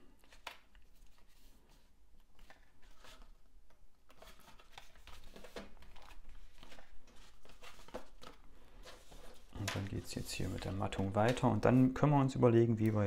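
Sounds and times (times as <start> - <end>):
paper rustling: 0.2 - 3.4, 4.1 - 12.0.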